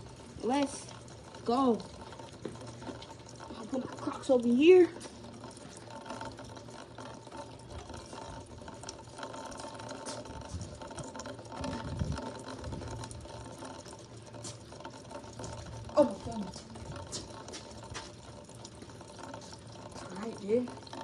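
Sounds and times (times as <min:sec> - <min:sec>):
rainwater running through gutter: 0:00.0 - 0:21.0.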